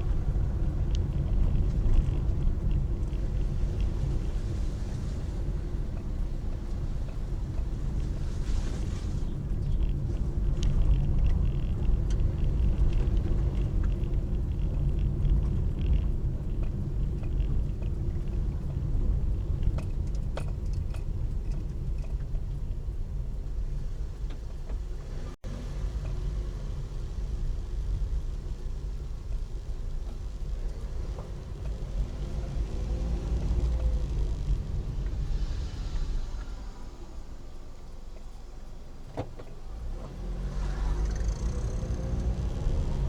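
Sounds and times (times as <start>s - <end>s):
car driving: 0.0s - 43.0s
road and engine noise: 0.0s - 43.0s.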